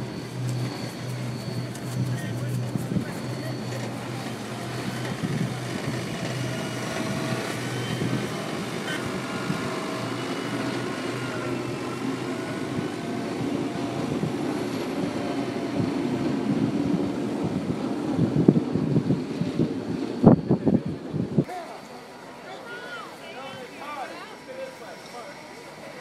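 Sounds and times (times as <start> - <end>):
diesel engine running: 0.0 - 21.4
faint wavering whine: 0.0 - 26.0.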